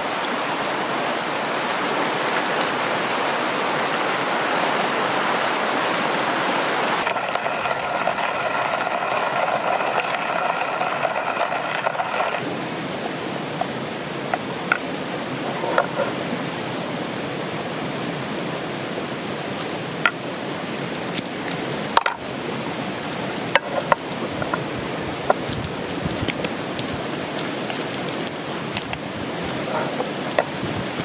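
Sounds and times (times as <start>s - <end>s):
stream flowing: 0.0s - 31.0s.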